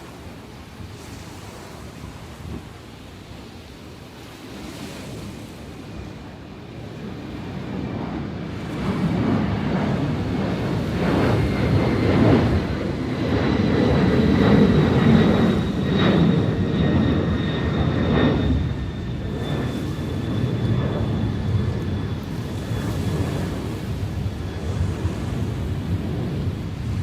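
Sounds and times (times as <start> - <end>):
airplane engine rumble: 0.0 - 27.0
sea surf: 0.0 - 27.0
wind: 0.0 - 27.0.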